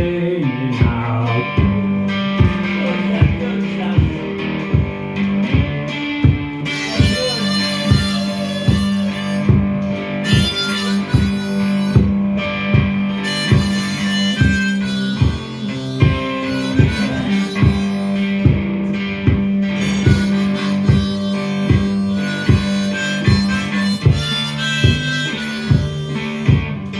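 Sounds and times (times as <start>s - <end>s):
cigar box guitar riff: 0.0s - 26.9s
thumping beat: 0.0s - 26.9s
harmonica playing: 0.4s - 26.9s.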